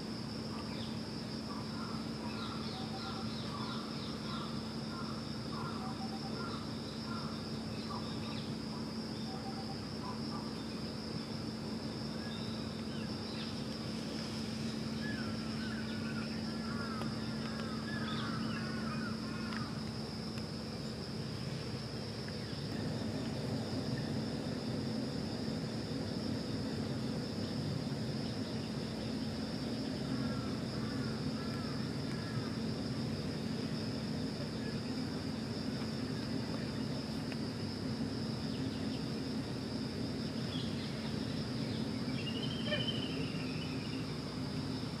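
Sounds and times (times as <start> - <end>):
high-pitched insect chorus: 0.0 - 45.0
low steady hum: 0.0 - 45.0.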